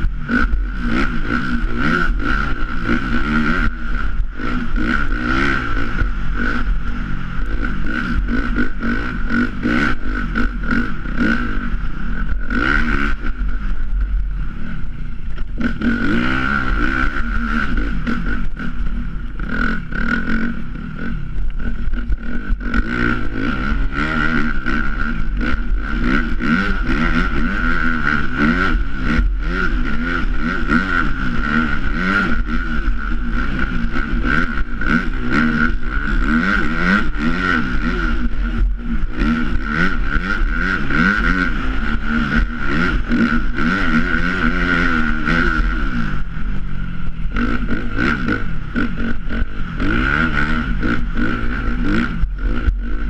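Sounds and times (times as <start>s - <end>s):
dirt bike engine revving: 0.0s - 53.0s
steady high whine: 0.0s - 53.0s.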